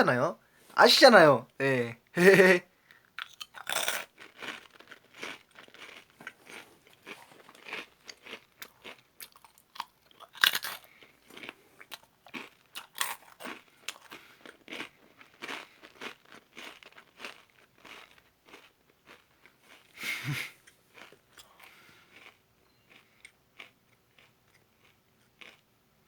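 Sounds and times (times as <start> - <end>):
crunchy snack chewing: 2.9 - 25.7.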